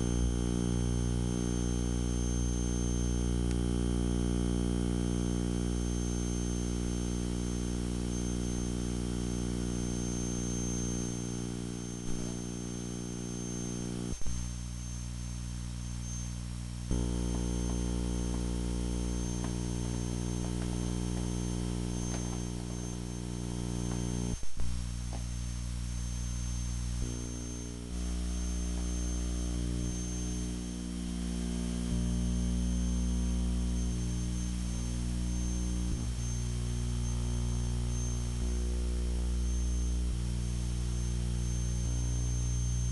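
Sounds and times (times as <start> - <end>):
electrical mains hum: 0.0 - 42.9
faint high whine: 0.0 - 42.9.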